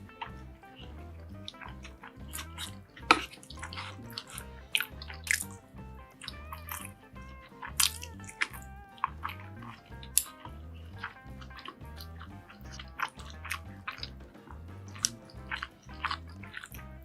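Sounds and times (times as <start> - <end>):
music with bass beat: 0.0 - 17.0
wet watery food sounds: 0.0 - 17.0.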